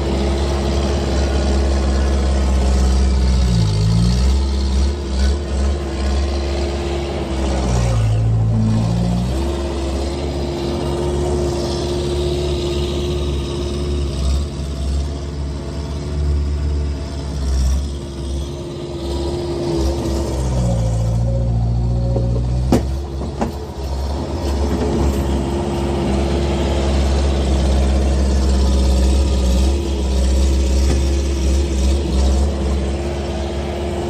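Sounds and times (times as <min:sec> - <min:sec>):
unmuffled skid steer engine: 0:00.0 - 0:34.0.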